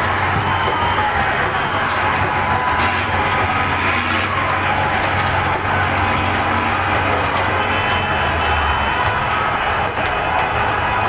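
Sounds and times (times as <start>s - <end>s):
crowd shouting: 0.0s - 11.0s
tractor engine running: 0.0s - 11.0s.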